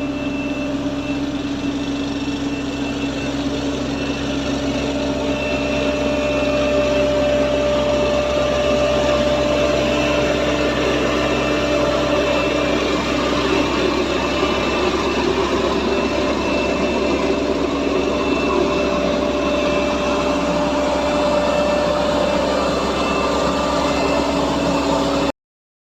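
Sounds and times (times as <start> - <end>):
low engine rumble: 0.0 - 25.3
steady whining tones: 0.0 - 25.3.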